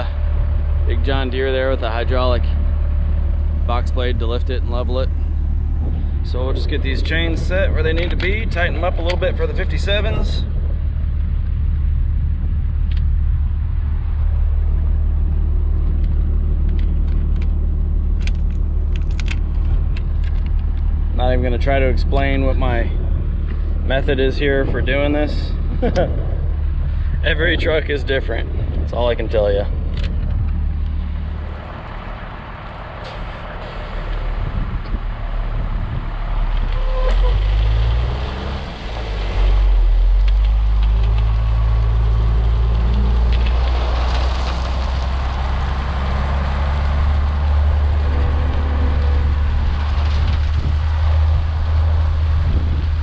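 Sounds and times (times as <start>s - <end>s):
diesel truck engine droning: 0.0s - 53.0s
gravel rushing: 0.0s - 53.0s.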